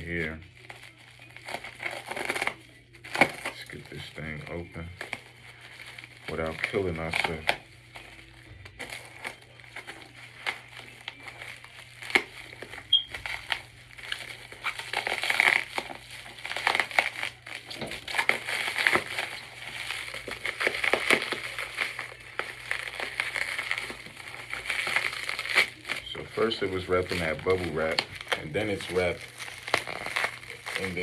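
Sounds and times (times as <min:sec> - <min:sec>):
bubble wrap crackling: 0:00.0 - 0:31.0.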